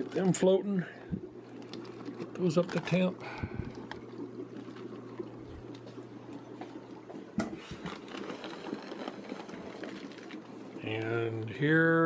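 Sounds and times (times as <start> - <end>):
faint aquarium water: 0.0 - 12.0
low steady hum: 0.0 - 12.0.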